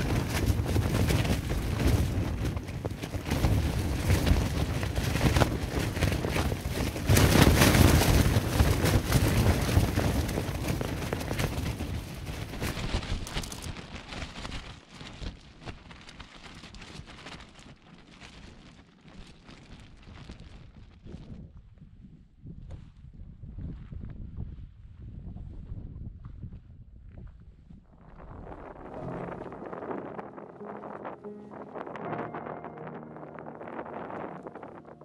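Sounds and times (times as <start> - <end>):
wind flapping tent fabric: 0.0 - 35.0.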